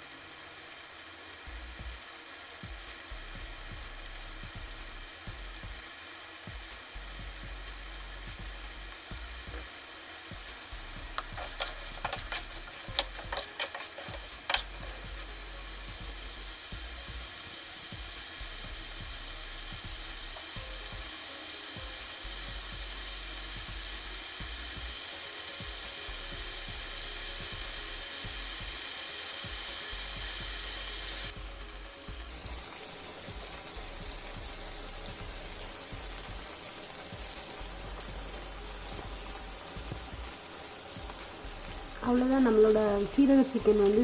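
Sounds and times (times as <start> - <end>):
gravy bubbling and sizzling: 0.0 - 44.0.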